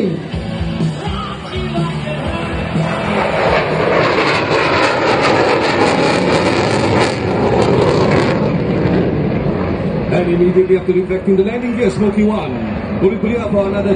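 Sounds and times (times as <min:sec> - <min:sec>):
jet flying low: 0:00.0 - 0:13.9.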